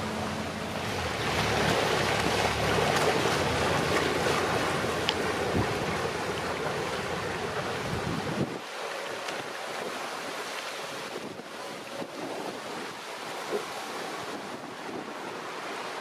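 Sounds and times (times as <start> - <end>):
wind on microphone: 0.0 - 8.7, 9.4 - 16.0
boat engine humming: 0.0 - 16.0
choppy river water: 0.0 - 16.0.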